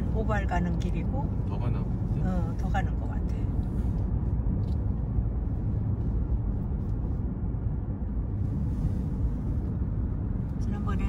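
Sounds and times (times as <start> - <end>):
road rumble inside moving car: 0.0 - 11.0.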